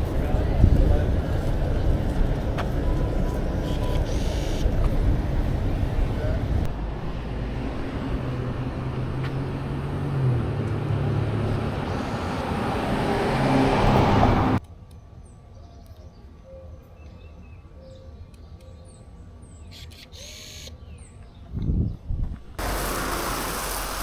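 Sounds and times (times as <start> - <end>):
street noise: 0.0 - 24.0.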